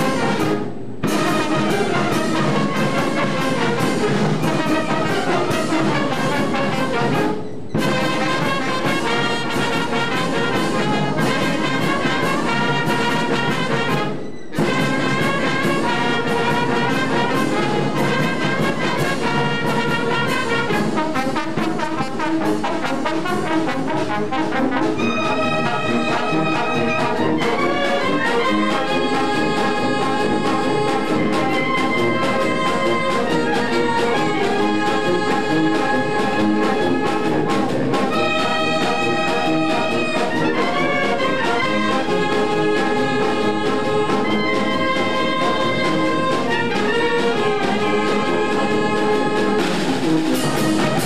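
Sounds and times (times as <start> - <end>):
brass band playing: 0.0 - 51.0.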